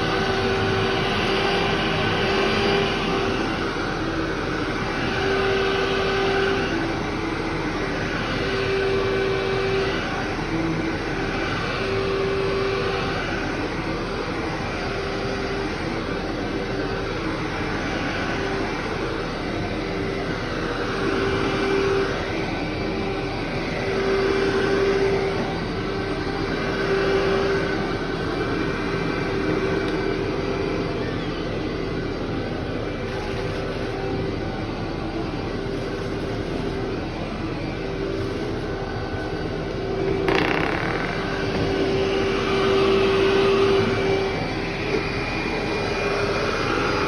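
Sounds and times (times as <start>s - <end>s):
vacuum cleaner on carpet: 0.0s - 47.0s.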